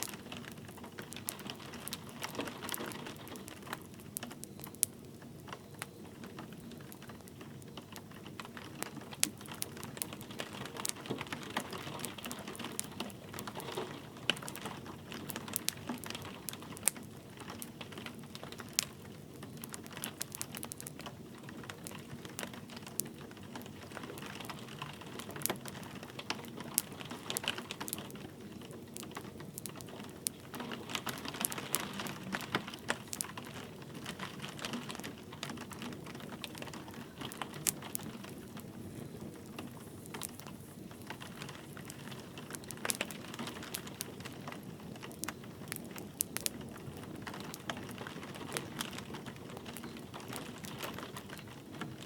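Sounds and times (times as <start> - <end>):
light rain hissing: 0.0 - 52.0
wood fire crackling and popping: 0.0 - 52.0.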